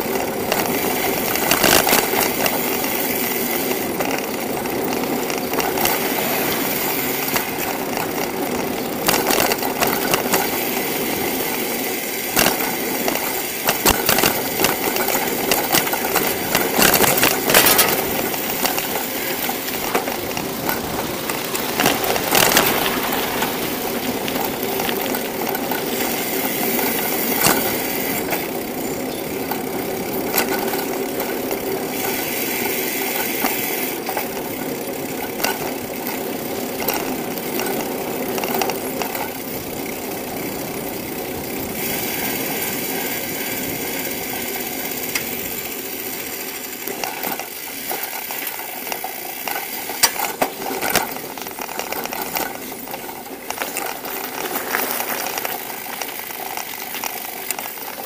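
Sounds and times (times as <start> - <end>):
bicycle rattles and knocks: 0.0 - 58.0
tyre and wind noise: 0.0 - 58.0.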